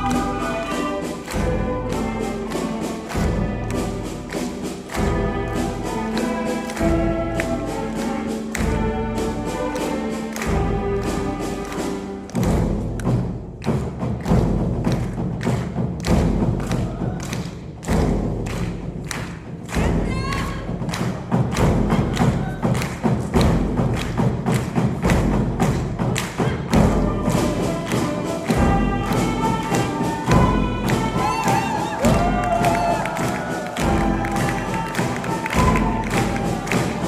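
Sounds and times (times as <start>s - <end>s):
school ensemble music: 0.0s - 37.0s
thudding beat: 0.0s - 37.0s.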